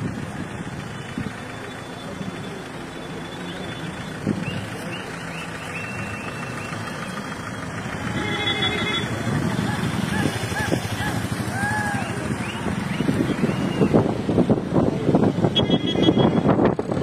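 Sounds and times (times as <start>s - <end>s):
traffic engines rumbling: 0.0s - 17.0s.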